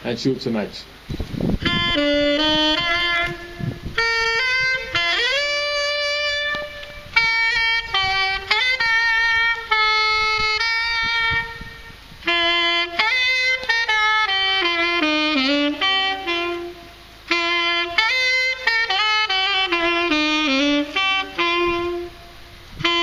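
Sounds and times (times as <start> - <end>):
solo saxophone melody: 1.0 - 23.0.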